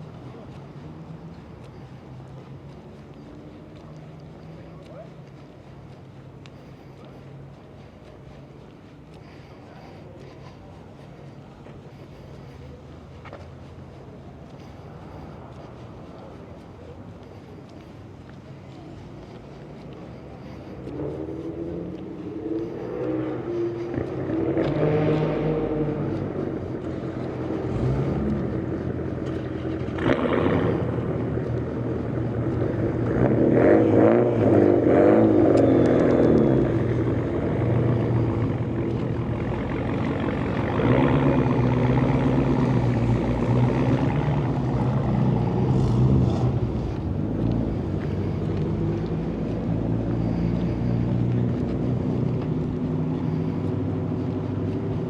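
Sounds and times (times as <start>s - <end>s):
traffic engines running: 0.0s - 55.0s
vehicles passing: 0.0s - 55.0s.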